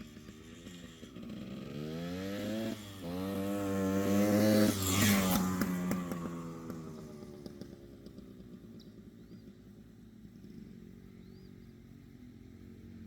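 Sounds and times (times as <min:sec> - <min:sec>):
motorcycle engine passing by: 0:00.0 - 0:13.0.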